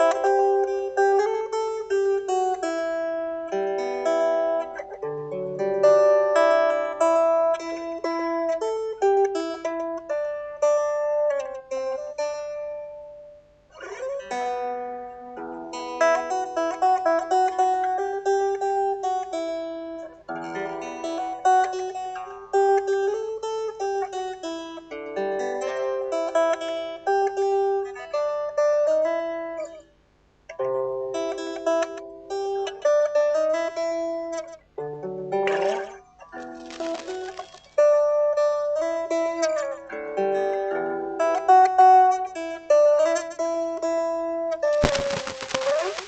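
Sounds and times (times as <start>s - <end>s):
solo guitar playing: 0.0s - 29.9s, 30.5s - 46.0s.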